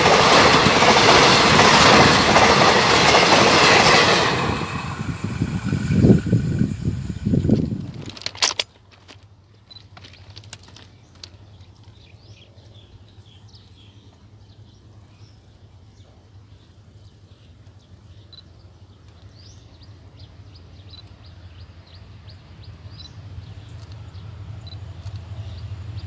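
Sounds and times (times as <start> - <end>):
distant diesel train drone: 0.0 - 26.0.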